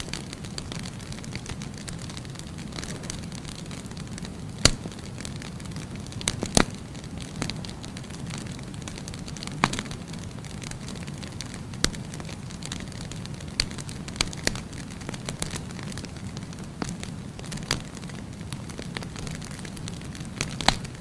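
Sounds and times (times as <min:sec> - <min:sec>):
burning logs crackling and popping: 0:00.0 - 0:21.0
fire flames rumbling: 0:00.0 - 0:21.0.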